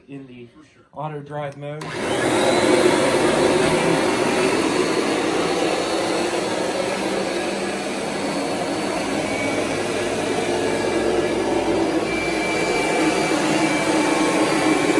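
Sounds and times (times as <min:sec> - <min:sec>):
vacuum cleaner motor running: 0:01.8 - 0:14.9.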